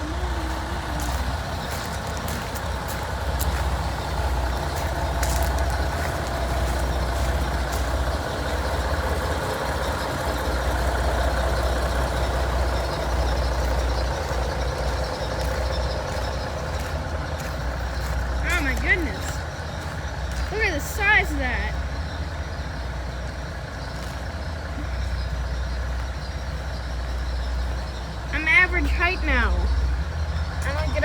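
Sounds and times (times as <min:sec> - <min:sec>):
low engine rumble: 0:00.0 - 0:31.0.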